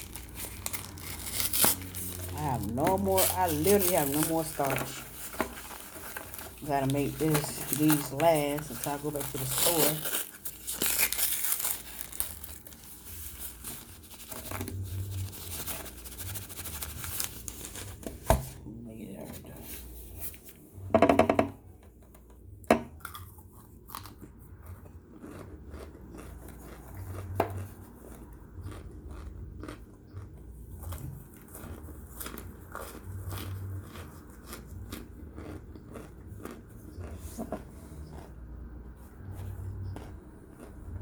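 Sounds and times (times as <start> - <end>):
person crunching and chewing: 0.0 - 18.0, 22.9 - 41.0.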